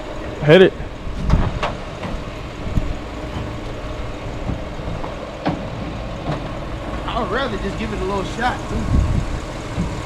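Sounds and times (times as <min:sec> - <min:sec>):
heavy engine rumbling: 0:00.0 - 0:10.0.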